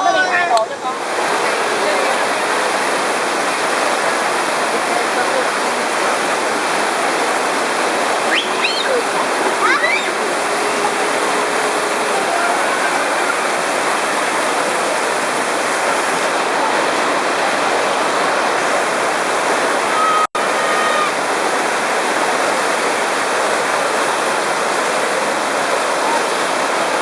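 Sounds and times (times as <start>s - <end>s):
churning water rushing: 0.0s - 27.0s.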